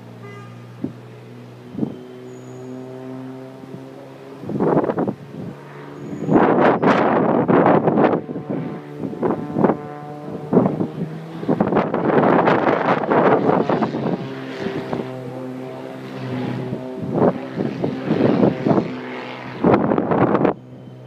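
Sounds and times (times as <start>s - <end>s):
propeller aircraft engine droning: 0.0s - 21.0s
wind buffeting microphone: 0.7s - 21.0s.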